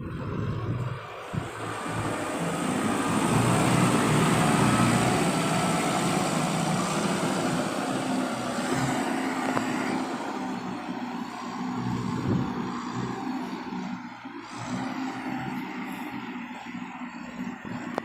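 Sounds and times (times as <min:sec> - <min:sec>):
tractor diesel engine running hard: 0:00.0 - 0:18.0.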